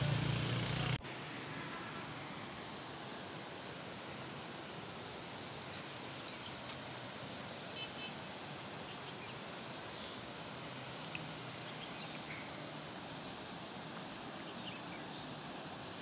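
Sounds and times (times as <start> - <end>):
fast river rushing: 0.0 - 16.0.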